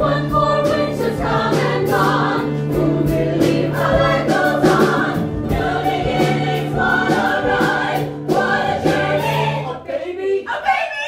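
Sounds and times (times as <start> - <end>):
band playing steady beat: 0.0 - 9.6
ensemble singing in chorus: 0.0 - 10.9.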